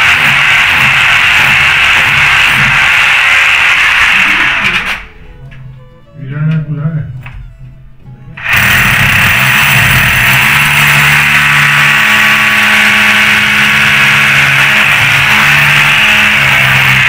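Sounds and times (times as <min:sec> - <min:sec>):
electric drill boring into tiled wall: 0:00.0 - 0:05.1, 0:08.4 - 0:17.0.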